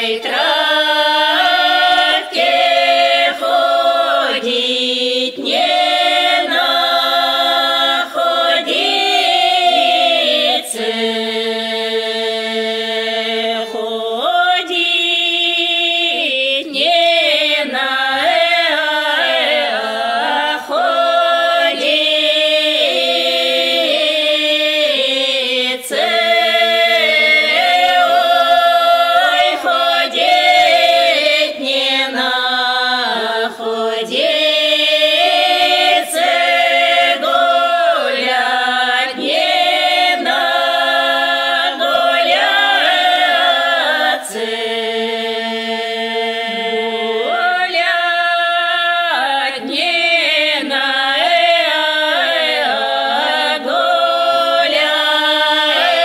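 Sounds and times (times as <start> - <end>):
women singing folk song unaccompanied: 0.0 - 56.0.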